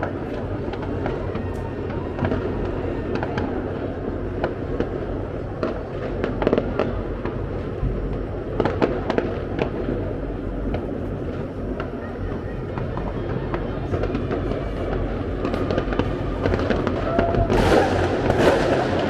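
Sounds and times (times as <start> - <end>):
distant fireworks cracking and popping: 0.0 - 19.0
loud firework bangs: 0.0 - 19.0.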